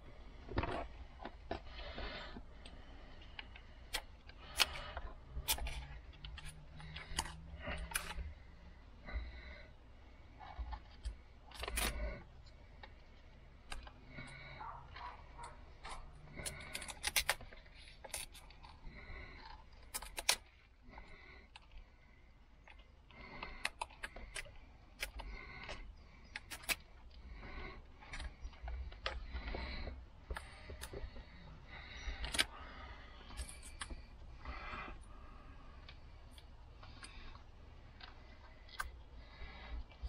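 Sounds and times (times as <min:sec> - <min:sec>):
rustling of handled cable: 0:00.0 - 0:40.0.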